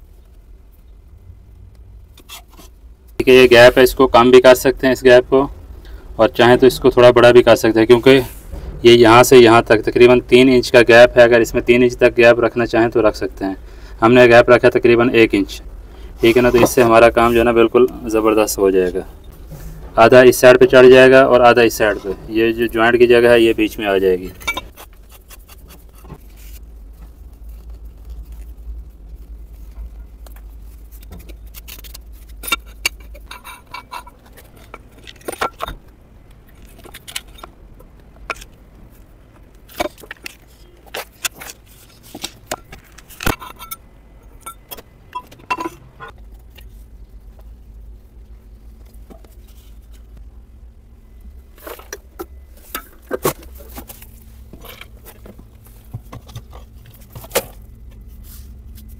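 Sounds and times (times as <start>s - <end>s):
low steady rumble: 0.0s - 58.9s.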